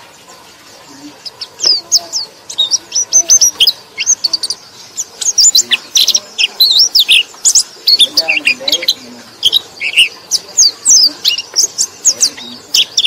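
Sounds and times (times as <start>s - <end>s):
bird singing high chirps: 0.9s - 13.0s.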